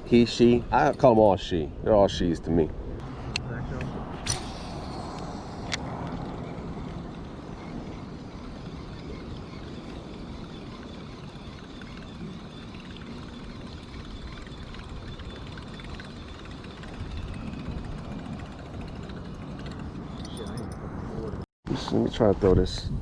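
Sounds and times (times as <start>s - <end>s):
wind buffeting microphone: 0.0s - 21.4s.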